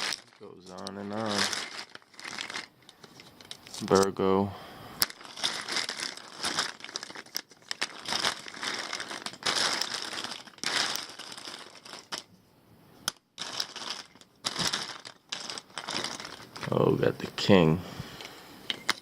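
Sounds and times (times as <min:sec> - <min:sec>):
plastic lighters rustling and clicking: 0:00.0 - 0:04.2, 0:05.0 - 0:12.4, 0:13.0 - 0:16.8, 0:18.2 - 0:19.0.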